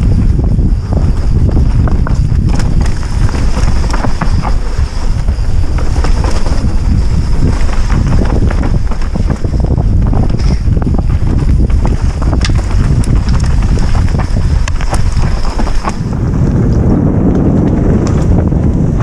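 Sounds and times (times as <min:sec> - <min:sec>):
tyres rolling on dirt and stones: 0:00.0 - 0:18.9
bike clicks and rattles: 0:00.0 - 0:19.0
wind buffeting microphone: 0:00.0 - 0:19.0.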